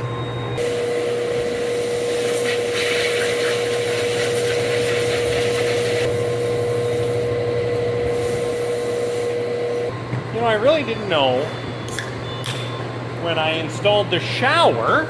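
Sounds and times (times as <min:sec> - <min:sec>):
steady high whine: 0:00.0 - 0:12.5
machinery low hum: 0:00.0 - 0:15.0.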